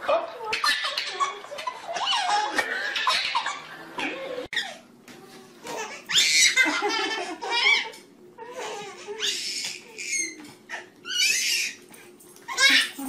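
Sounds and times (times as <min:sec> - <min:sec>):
baby laughing: 0:00.5 - 0:04.8, 0:05.6 - 0:11.8, 0:12.5 - 0:13.0.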